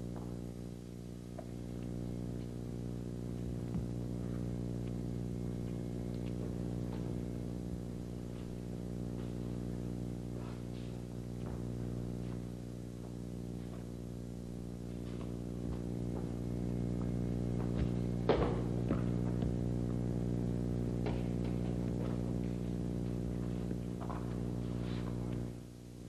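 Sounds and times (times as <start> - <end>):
footsteps on wooden stage: 0.0 - 0.7, 3.3 - 20.1, 21.0 - 25.5
mains hum: 0.0 - 26.0.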